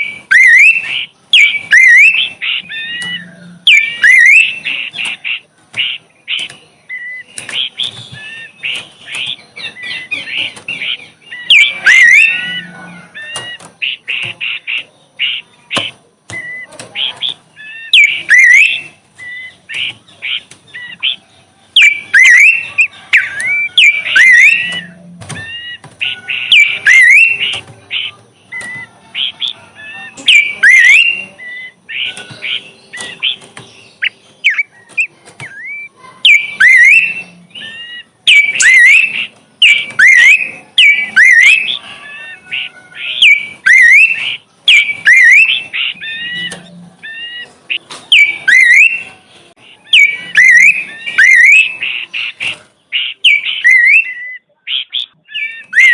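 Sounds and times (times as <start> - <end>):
bird singing whistled notes: 0.0 - 15.5, 16.3 - 55.9.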